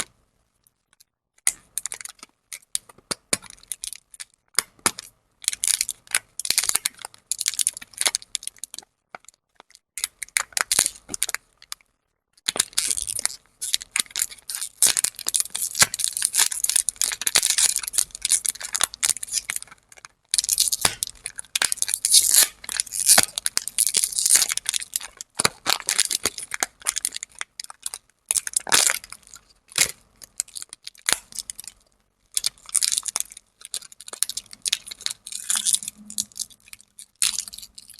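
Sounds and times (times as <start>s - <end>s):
plastic wrappers crinkling: 1.6s - 11.8s, 12.4s - 37.9s.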